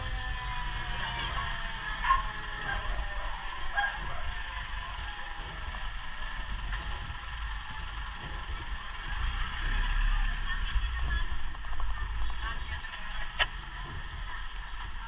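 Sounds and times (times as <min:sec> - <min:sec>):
street noise: 0:00.0 - 0:15.0
vehicle engine rumble: 0:00.0 - 0:15.0.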